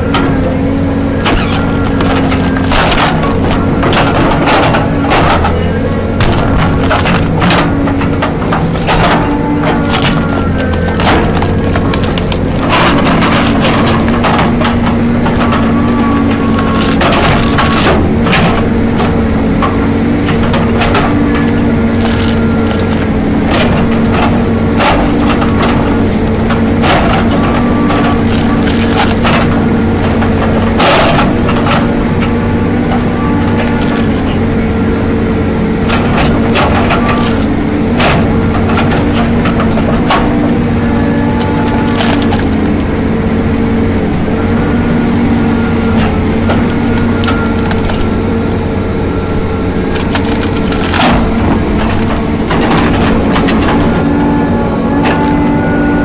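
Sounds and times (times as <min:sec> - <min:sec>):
heavy machine engine running: 0:00.0 - 0:56.0
timber cracking and splintering: 0:00.0 - 0:56.0.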